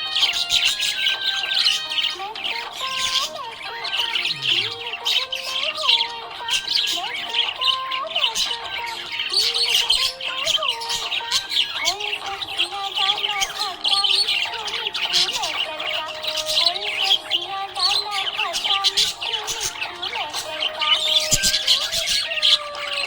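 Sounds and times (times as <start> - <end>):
budgerigars chirping and chattering: 0.0 - 23.0.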